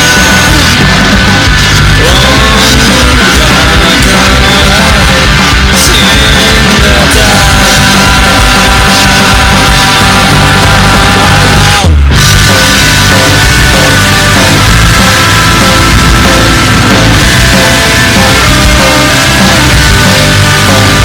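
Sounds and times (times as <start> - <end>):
distorted punk rock band: 0.0 - 21.0.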